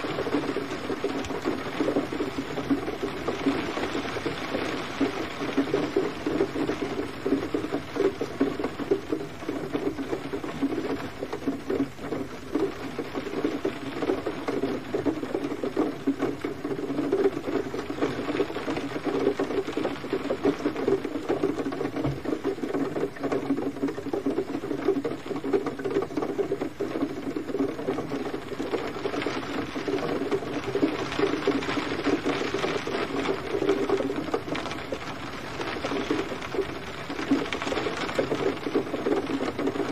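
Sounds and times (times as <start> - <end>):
gentle rain patter: 0.0 - 39.9.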